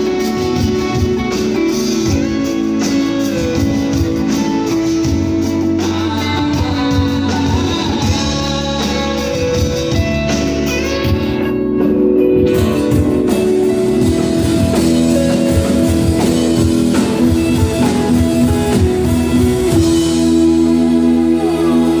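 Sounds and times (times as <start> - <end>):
live pop-rock band: 0.0 - 22.0.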